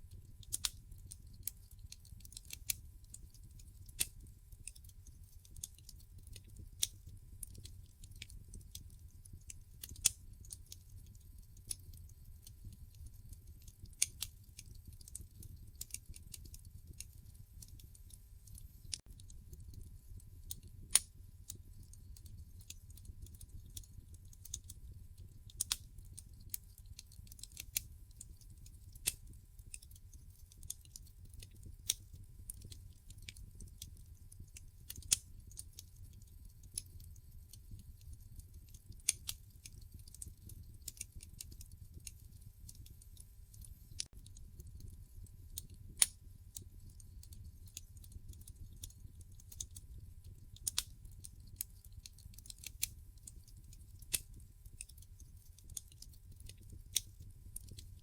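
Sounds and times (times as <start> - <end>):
low rumble of burning logs: 0.0 - 58.0
wood fire crackling: 0.0 - 58.0.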